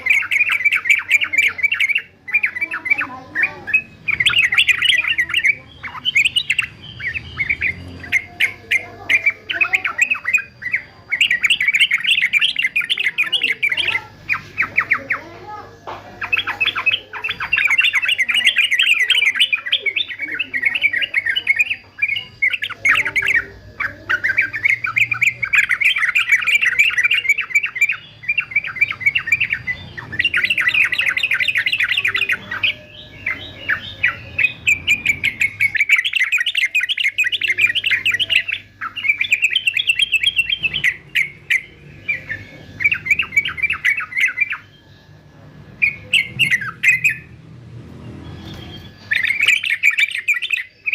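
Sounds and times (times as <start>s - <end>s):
bird singing chattering song: 0.0s - 50.9s.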